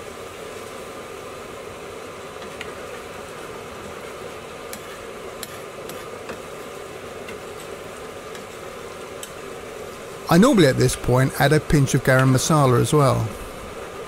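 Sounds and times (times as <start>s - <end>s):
curry sizzling in a metal pan: 0.0s - 14.0s.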